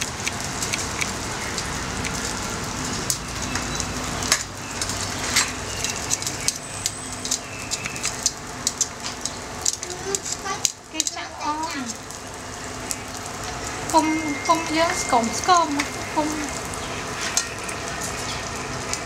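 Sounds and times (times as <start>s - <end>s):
crackles and pops of oil: 0.0s - 19.0s
hot oil sizzling: 0.0s - 19.0s.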